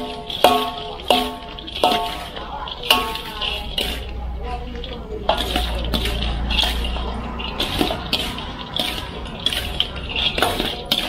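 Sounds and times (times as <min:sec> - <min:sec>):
fried pork crackling crunching: 0:00.0 - 0:11.0.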